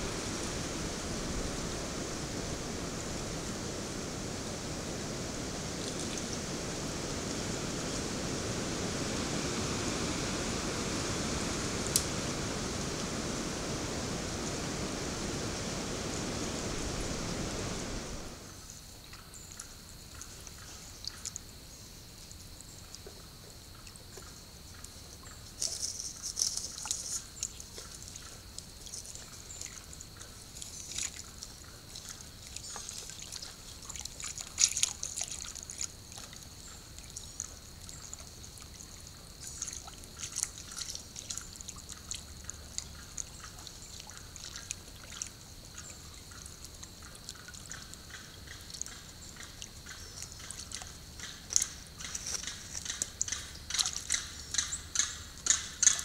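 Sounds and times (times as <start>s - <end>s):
water splashes and drips: 0.0s - 18.5s, 25.6s - 56.0s.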